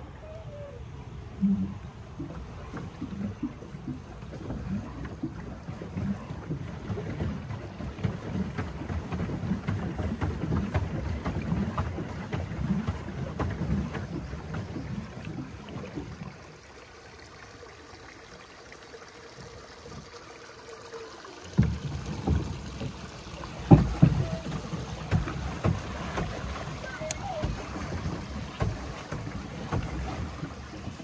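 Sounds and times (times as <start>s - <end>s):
paddle wheel churning water: 0.0s - 31.0s
steady water wash: 0.0s - 31.0s.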